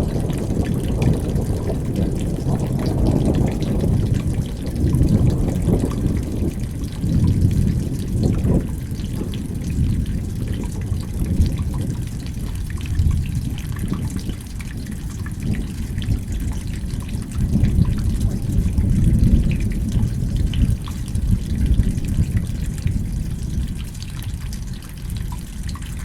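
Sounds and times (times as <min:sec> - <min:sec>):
rain falling: 0:00.0 - 0:26.0
water trickling and dripping: 0:00.0 - 0:26.0.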